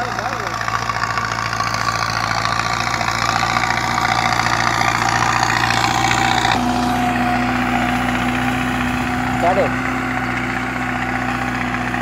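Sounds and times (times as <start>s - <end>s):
tractor engine throbbing: 0.0s - 12.0s.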